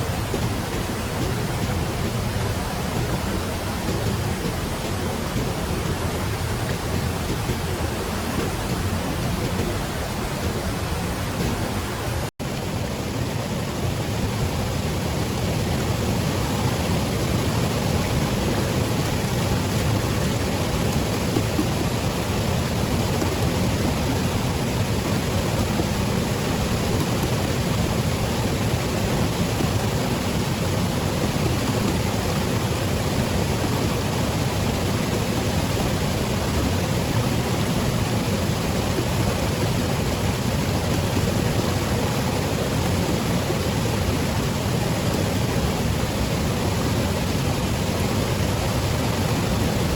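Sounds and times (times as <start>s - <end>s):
rushing water: 0.0s - 49.9s.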